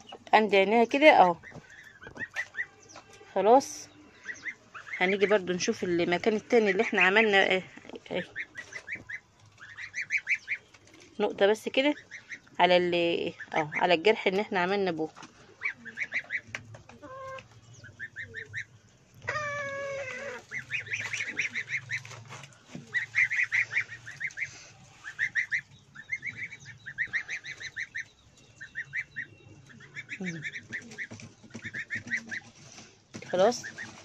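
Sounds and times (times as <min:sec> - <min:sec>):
poultry chirping: 0:00.0 - 0:34.0.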